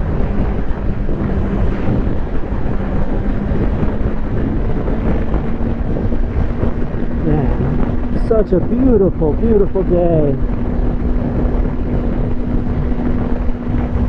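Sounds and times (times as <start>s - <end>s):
motorcycle engine cruising: 0.0s - 14.0s
wind noise on microphone: 0.0s - 14.0s.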